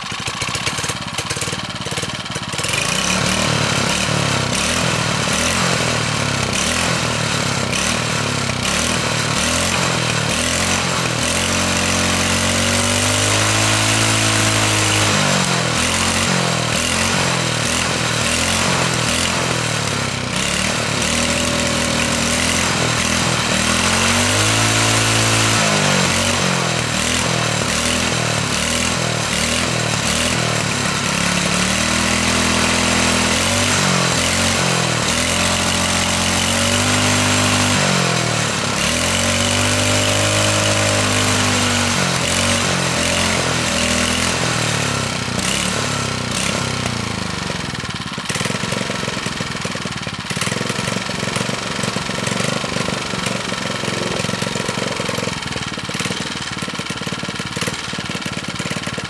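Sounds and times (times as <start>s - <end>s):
small engine revving: 0.0s - 59.0s.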